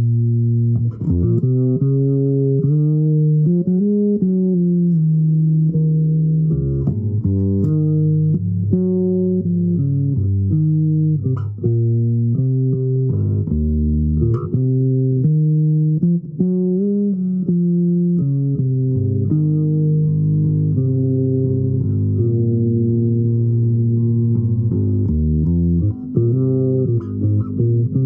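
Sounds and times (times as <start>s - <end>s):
bass guitar melody: 0.0s - 28.0s.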